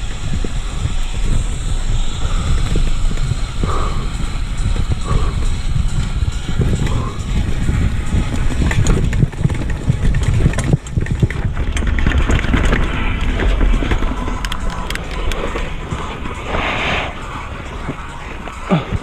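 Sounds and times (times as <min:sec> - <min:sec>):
bike rattles and clicks: 0:00.0 - 0:19.0
mountain bike low rumble: 0:00.0 - 0:19.0.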